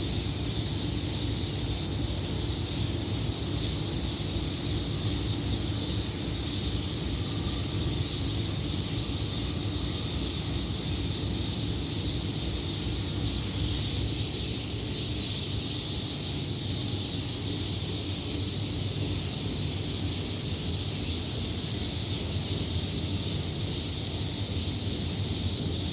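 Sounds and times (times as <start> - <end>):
birds chirping: 0.1 - 25.9.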